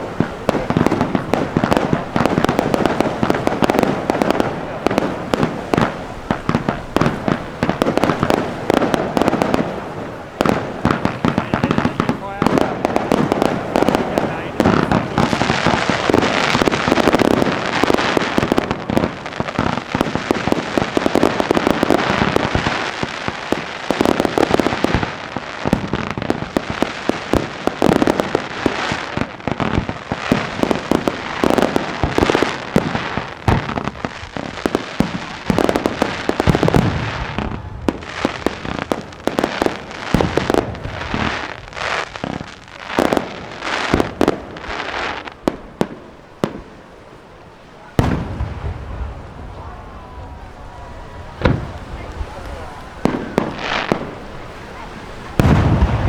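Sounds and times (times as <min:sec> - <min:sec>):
fireworks bangs and crackle: 0:00.0 - 0:56.0.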